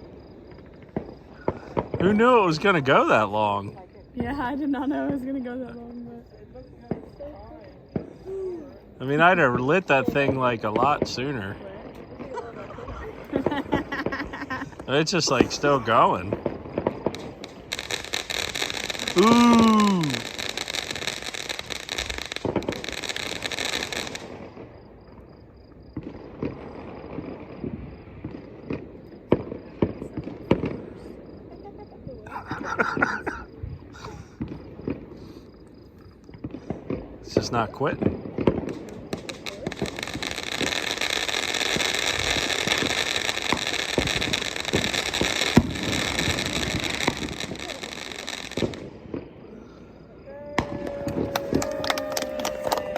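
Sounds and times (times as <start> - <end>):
sharp pops and crackles: 0.0 - 6.1, 6.8 - 8.4, 9.0 - 31.4, 34.0 - 49.4, 50.6 - 52.9
firework hissing and crackling: 0.0 - 52.9.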